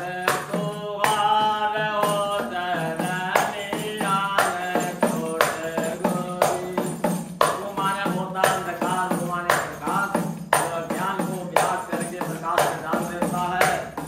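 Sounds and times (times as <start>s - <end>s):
man singing devotional song: 0.0s - 14.0s
tambourine beat with jingles: 0.0s - 14.0s.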